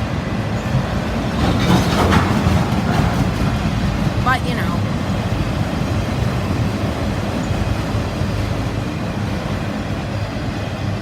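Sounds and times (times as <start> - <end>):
freight train cars rolling on rails: 0.0 - 11.0.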